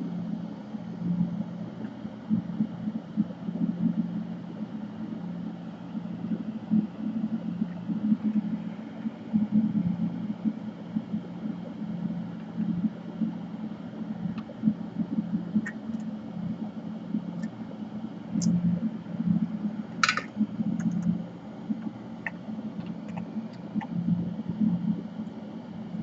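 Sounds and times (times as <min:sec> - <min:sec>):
exhaust fan humming: 0:00.0 - 0:26.0.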